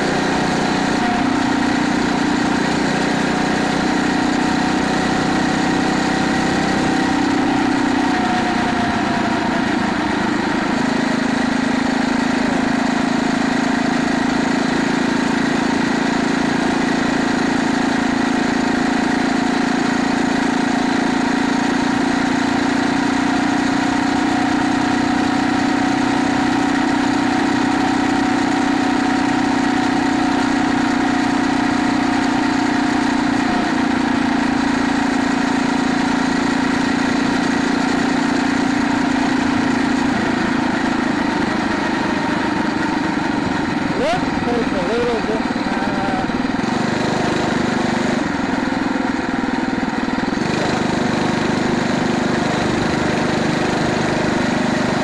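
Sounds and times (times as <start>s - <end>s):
motorized bicycle engine running: 0.0s - 55.0s.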